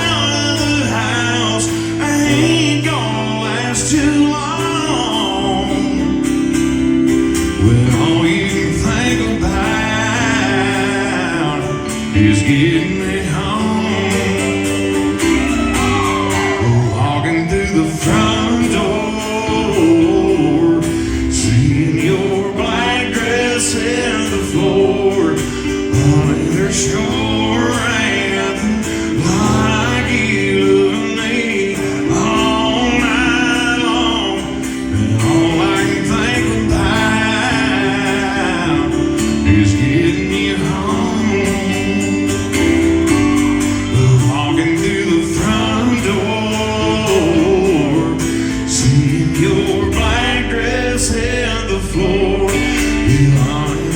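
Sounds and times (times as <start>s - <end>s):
band accompaniment: 0.0s - 53.9s
person singing live: 0.0s - 53.9s.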